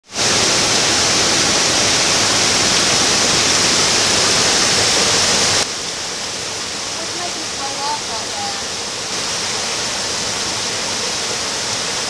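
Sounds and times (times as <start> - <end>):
water rushing down creek: 0.0 - 12.0.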